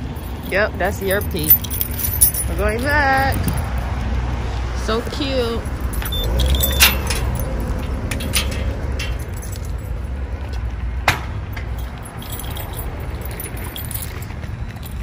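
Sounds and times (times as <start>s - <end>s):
light metal jingling: 0.0s - 4.0s, 5.1s - 15.0s.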